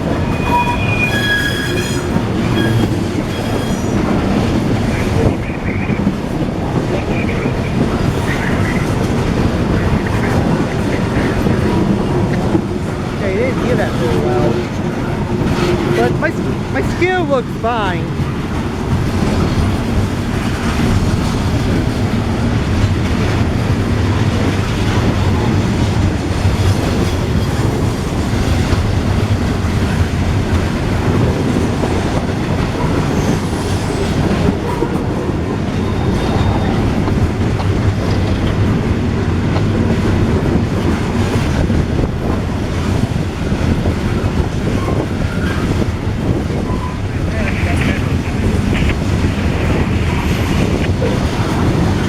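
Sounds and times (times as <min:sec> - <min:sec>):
freight train rumbling past: 0:00.0 - 0:52.0
wheels clattering on rails: 0:00.0 - 0:52.0.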